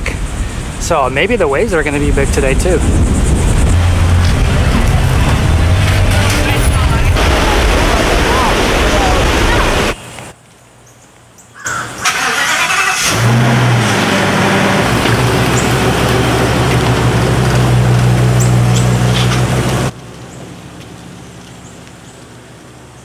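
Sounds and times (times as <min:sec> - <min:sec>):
motorhome engine starting and droning: 0:00.0 - 0:10.0, 0:12.0 - 0:23.0.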